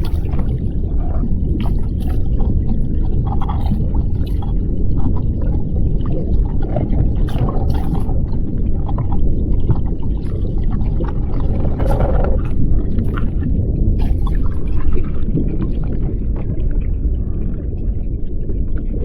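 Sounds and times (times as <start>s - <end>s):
faint clicks and crackles: 0.0s - 19.0s
muffled underwater rumble: 0.0s - 19.0s.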